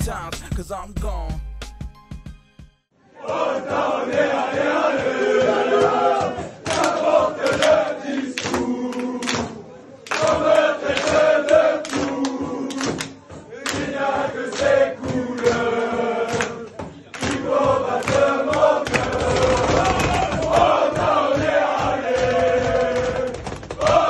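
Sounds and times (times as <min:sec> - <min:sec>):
crowd chanting: 0:03.0 - 0:24.0.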